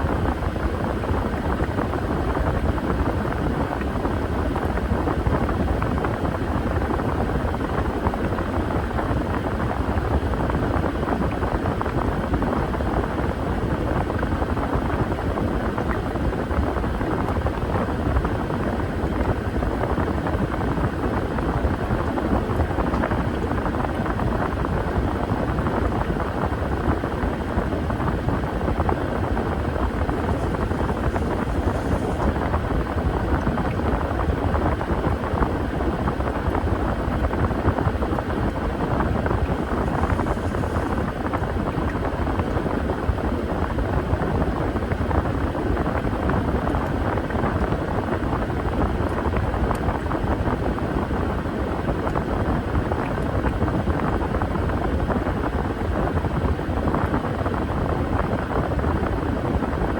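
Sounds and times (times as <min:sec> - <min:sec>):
washing machine running: 0:00.0 - 0:59.9.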